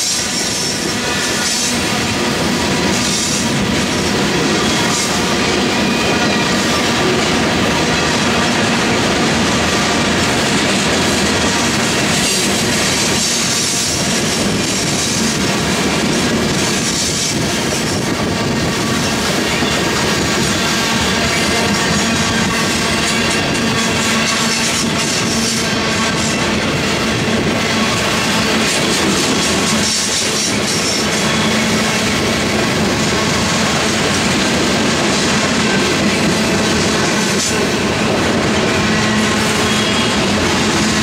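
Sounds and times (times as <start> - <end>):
clickety-clack over rail joints: 0.0 - 41.0
train wheels rumbling on rail: 0.0 - 41.0.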